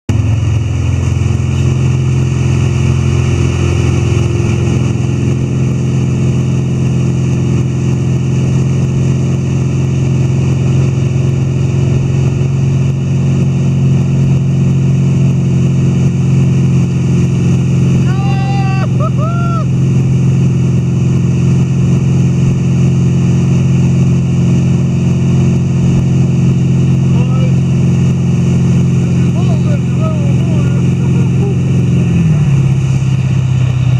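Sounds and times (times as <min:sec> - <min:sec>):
churning wake rushing: 0:00.1 - 0:33.9
motorboat engine drone: 0:00.1 - 0:33.9.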